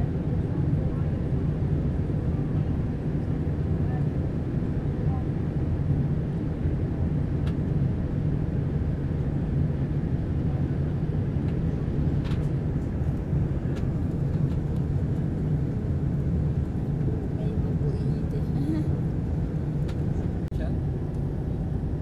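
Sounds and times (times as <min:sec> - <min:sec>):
airliner engine rumble: 0:00.0 - 0:22.0.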